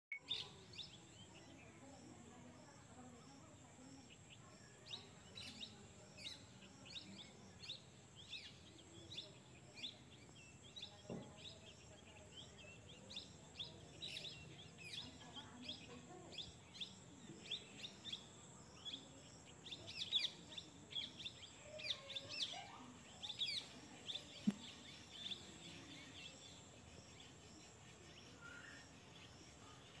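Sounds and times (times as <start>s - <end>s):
birds chirping: 0.1s - 30.0s
faint steady hiss: 0.2s - 30.0s.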